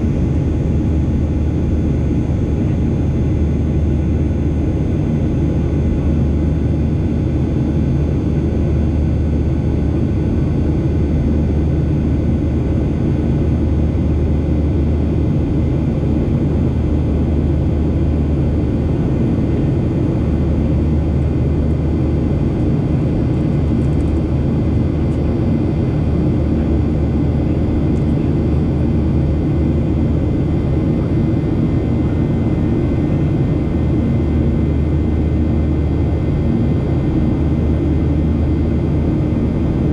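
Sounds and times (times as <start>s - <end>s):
airplane engine and airflow rumble: 0.0s - 39.9s.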